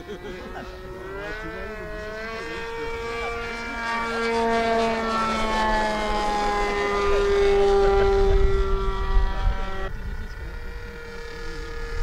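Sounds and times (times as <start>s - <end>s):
model airplane motor drone: 0.0s - 12.0s.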